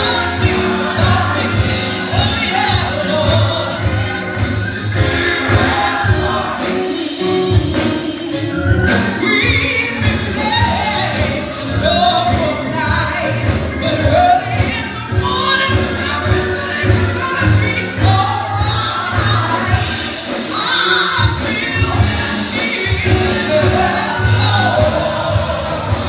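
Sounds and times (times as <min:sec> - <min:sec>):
band with pulsing bass beat: 0:00.0 - 0:26.0
gospel choir singing: 0:00.0 - 0:26.0.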